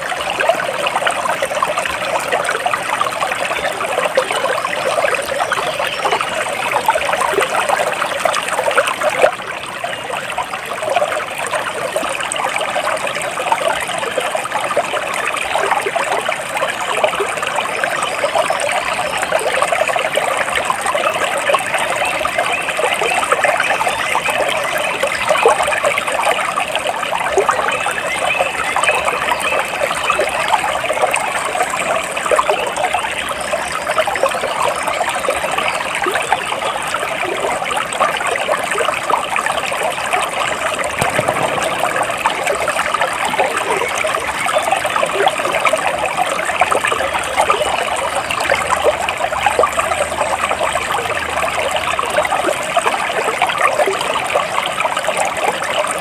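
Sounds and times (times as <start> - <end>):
stream flowing with small splashes: 0.0 - 56.0.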